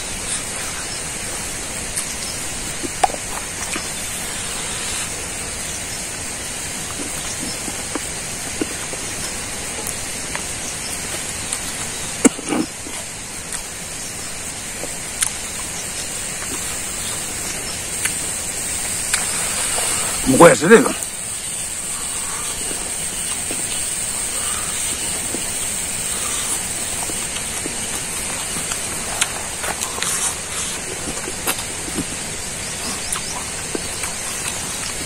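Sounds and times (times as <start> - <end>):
steady rushing hiss: 0.0 - 35.0
man chewing: 0.2 - 20.2, 21.0 - 35.0.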